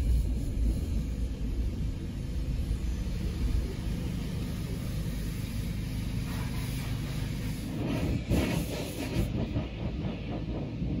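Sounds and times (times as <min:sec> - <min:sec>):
hiss: 0:00.0 - 0:11.0.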